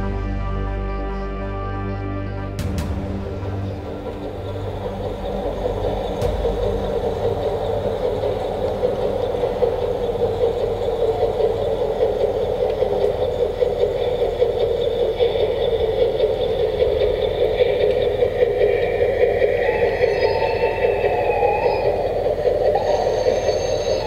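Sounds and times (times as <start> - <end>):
wagon wheels rattling on track: 3.8 - 24.0.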